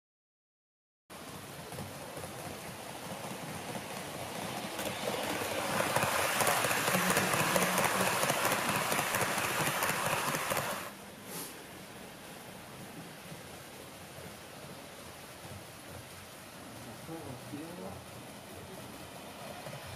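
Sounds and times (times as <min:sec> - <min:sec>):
model train running on track: 0:01.2 - 0:11.1, 0:11.7 - 0:19.9.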